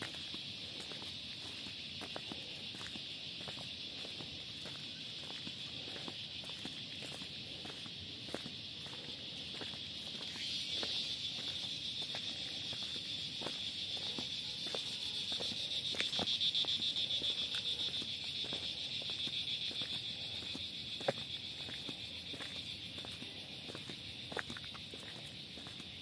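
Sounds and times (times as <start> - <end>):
footsteps on paved road: 0.0 - 26.0
insects trilling: 0.0 - 26.0.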